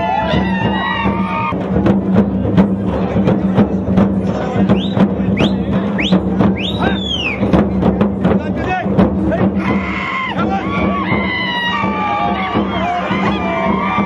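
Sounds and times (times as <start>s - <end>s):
frame drums beaten with sticks: 0.0s - 14.0s.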